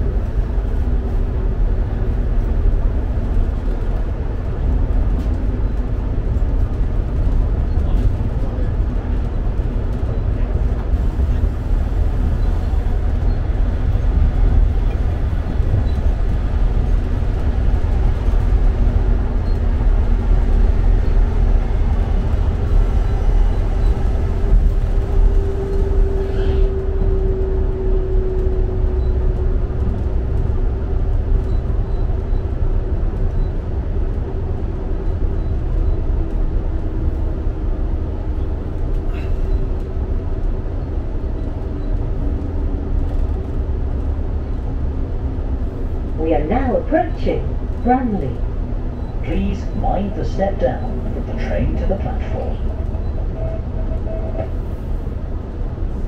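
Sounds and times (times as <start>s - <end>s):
train rumble from inside carriage: 0.0s - 56.0s.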